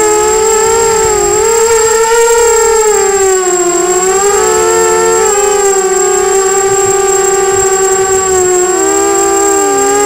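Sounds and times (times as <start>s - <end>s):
drone motors and propellers whining: 0.0s - 10.0s
thin steady high tone: 0.0s - 10.0s.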